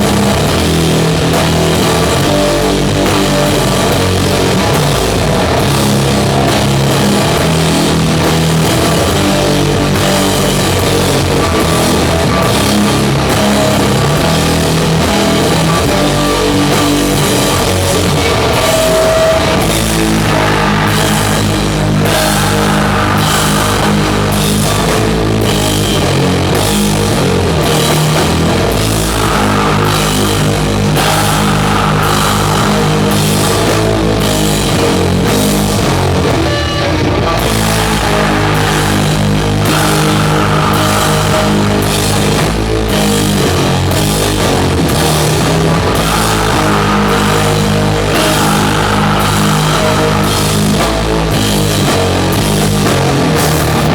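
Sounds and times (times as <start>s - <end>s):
drum and cymbal hits: 0.0s - 53.9s
heavy distorted guitars and bass: 0.0s - 53.9s.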